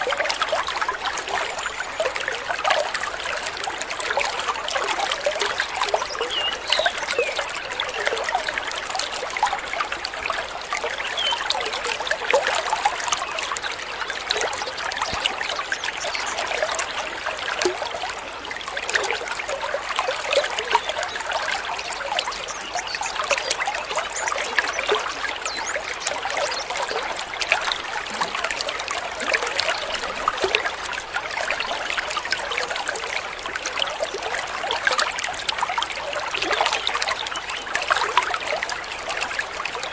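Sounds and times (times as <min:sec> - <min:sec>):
shallow water trickling: 0:00.0 - 0:39.9.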